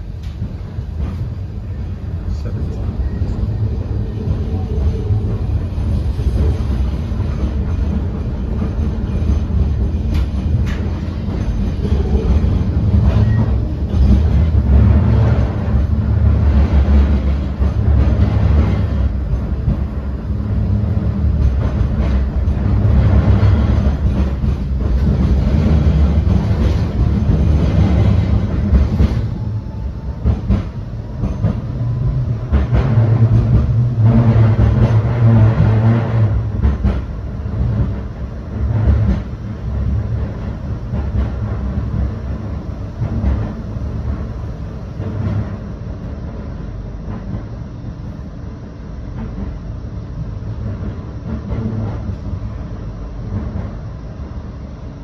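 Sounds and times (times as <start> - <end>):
tram knocks: 0.0 - 47.7
tram wheels rumbling on rail: 0.0 - 55.0.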